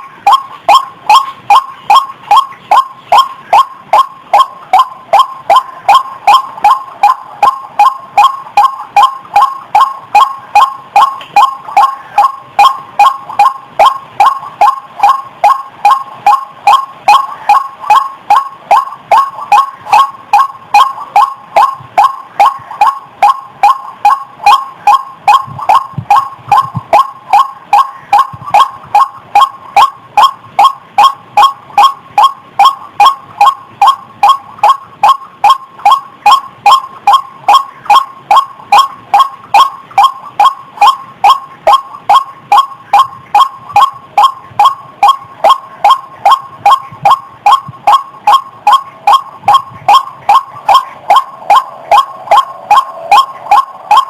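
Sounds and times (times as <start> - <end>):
waterhen calling: 0.0 - 54.0.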